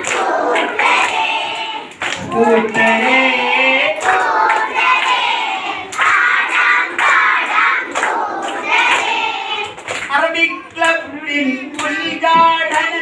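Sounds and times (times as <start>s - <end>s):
children clapping in time: 0.0s - 11.1s, 11.7s - 13.0s
children chanting a song: 0.0s - 13.0s.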